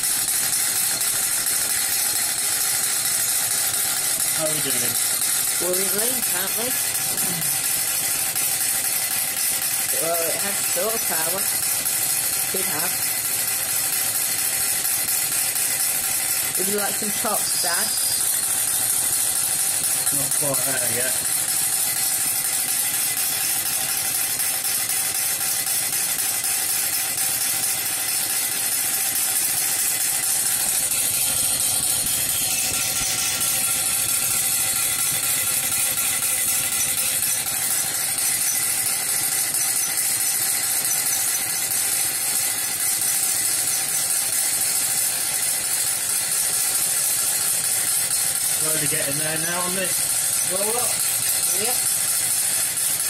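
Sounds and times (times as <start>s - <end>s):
steam engine mechanical rattle: 0.0s - 53.0s.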